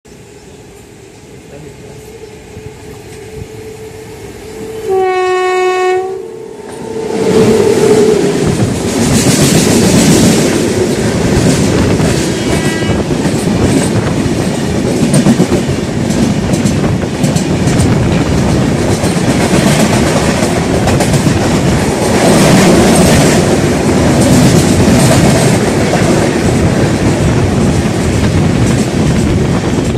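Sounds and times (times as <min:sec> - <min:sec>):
train coaches rumbling past: 0:00.1 - 0:29.9.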